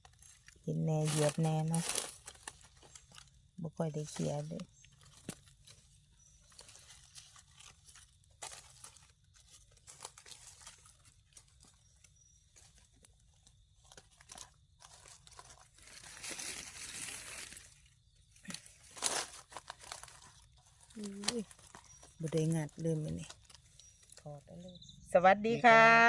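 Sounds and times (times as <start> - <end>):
dry leaves crackling and rustling: 0.0 - 25.0.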